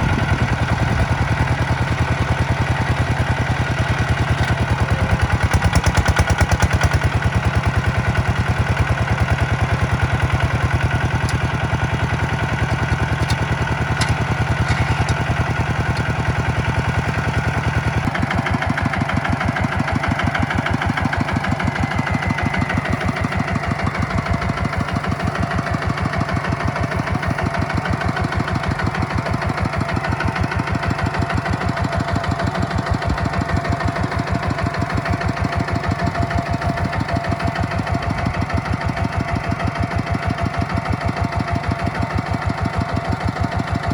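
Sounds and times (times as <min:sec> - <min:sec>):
tractor diesel engine chugging: 0:00.0 - 0:43.9.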